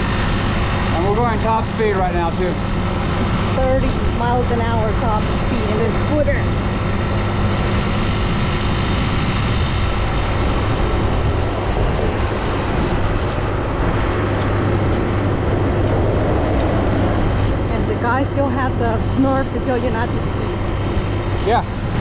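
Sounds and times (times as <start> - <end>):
scooter engine hum: 0.0 - 22.0
wind noise on microphone: 0.0 - 22.0.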